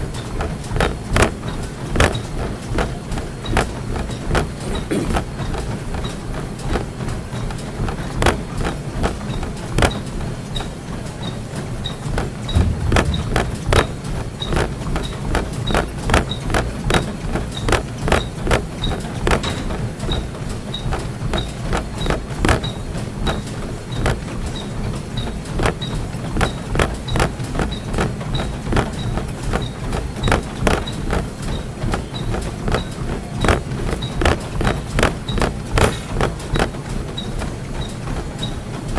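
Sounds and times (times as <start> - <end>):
footfalls on treadmill belt: 0.0 - 38.9
treadmill motor hum: 0.0 - 38.9.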